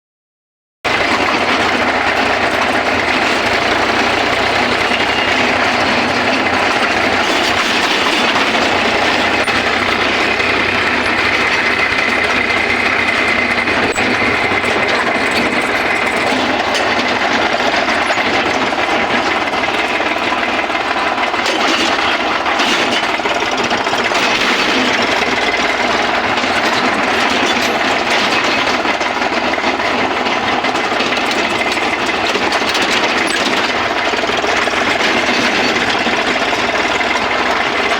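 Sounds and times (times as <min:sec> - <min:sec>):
mechanical rattling: 0:00.9 - 0:37.9
tractor diesel engine running: 0:00.9 - 0:37.9.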